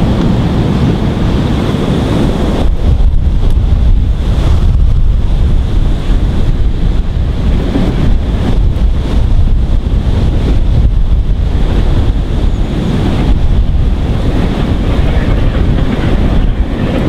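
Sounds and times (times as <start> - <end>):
steam locomotive approaching: 0.0 - 17.0
wind buffeting microphone: 0.0 - 17.0.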